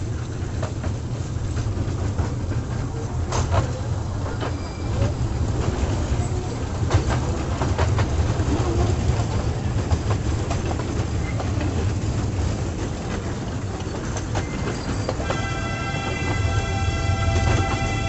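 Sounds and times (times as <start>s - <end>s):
wheels clicking over rails: 0.0s - 18.0s.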